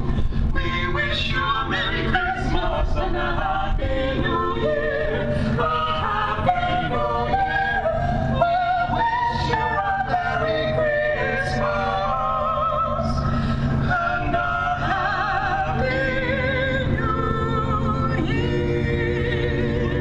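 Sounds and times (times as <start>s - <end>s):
carolers singing: 0.0s - 20.0s
steady low rumble: 0.0s - 20.0s.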